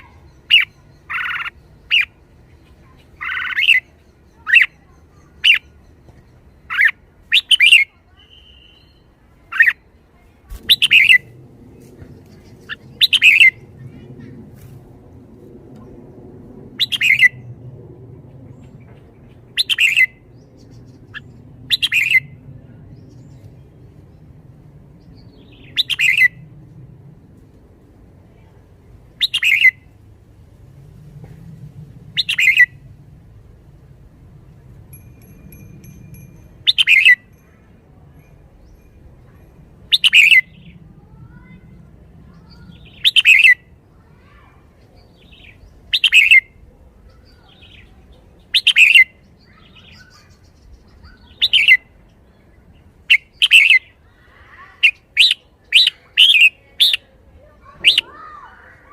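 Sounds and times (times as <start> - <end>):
bird singing bright phrases: 0.0 - 11.3, 12.1 - 14.3, 16.8 - 17.5, 18.5 - 26.4, 29.2 - 29.9, 32.2 - 32.8, 34.5 - 41.7, 42.3 - 58.9.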